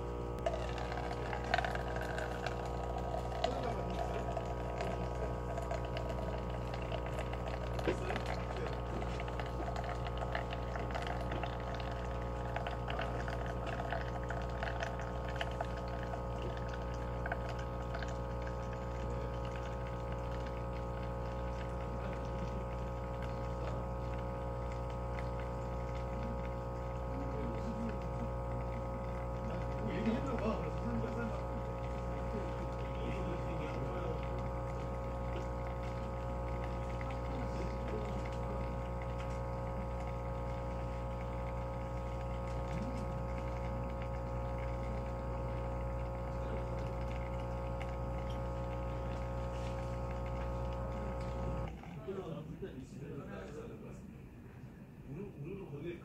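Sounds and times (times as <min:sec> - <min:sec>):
coffee pouring into paper cup: 0:00.0 - 0:54.0
coffee machine pump humming: 0:00.0 - 0:54.9.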